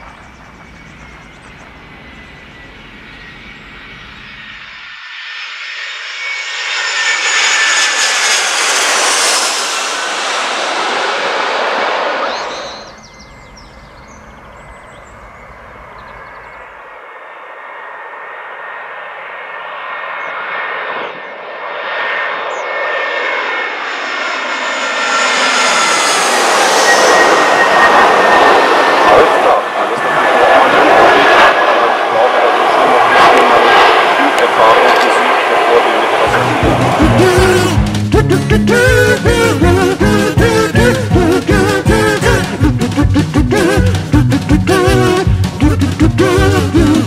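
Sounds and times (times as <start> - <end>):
jet airliner passing overhead: 0.0 - 47.0
second airliner engine whine: 0.0 - 47.0.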